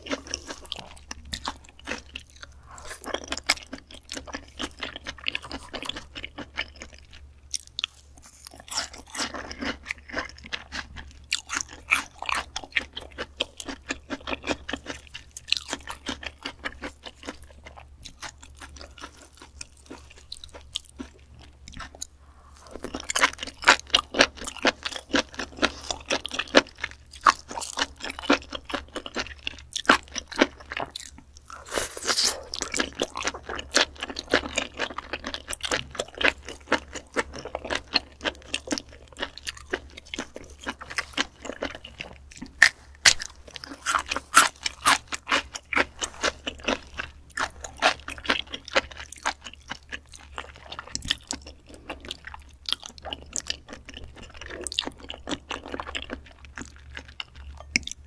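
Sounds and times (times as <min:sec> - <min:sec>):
wet chewing and mouth sounds: 0:00.0 - 0:58.0.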